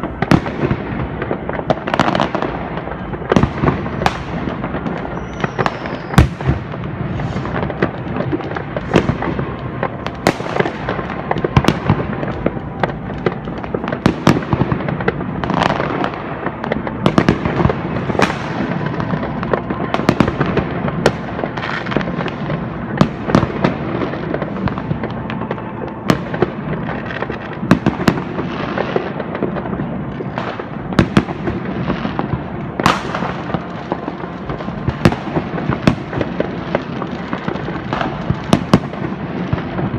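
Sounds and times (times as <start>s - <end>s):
distant explosions: 0.0s - 39.9s
fireworks and firecrackers bangs: 0.0s - 39.9s.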